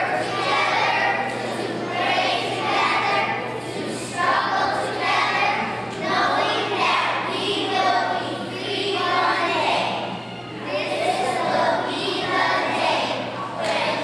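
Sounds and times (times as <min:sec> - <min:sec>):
children reciting in unison: 0:00.0 - 0:14.0.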